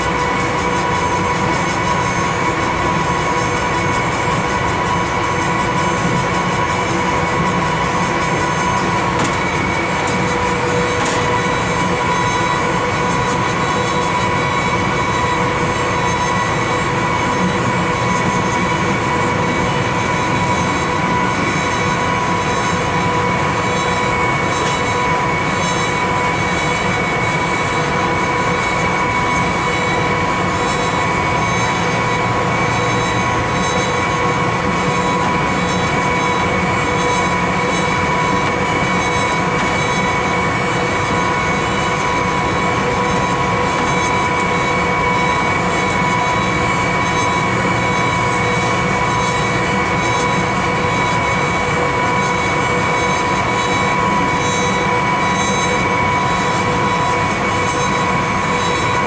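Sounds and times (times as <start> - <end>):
high-pitched whine: 0.0 - 59.0.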